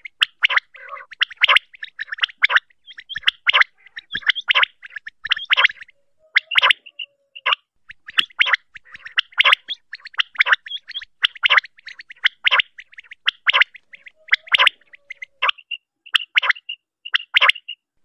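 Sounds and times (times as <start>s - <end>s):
quail calling: 0.0s - 17.8s.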